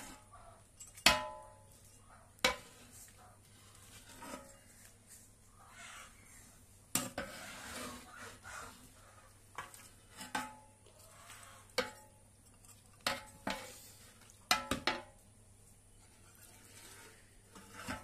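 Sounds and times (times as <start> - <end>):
stirring scrape in pot: 1.7 - 14.3, 16.0 - 18.0.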